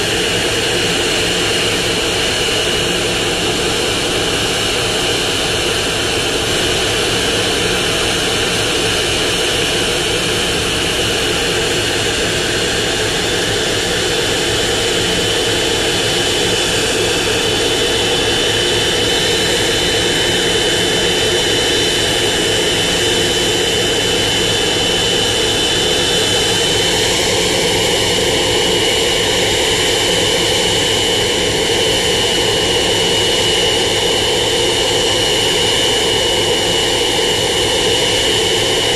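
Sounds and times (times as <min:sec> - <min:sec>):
jet engine roar with whine: 0:00.0 - 0:38.9.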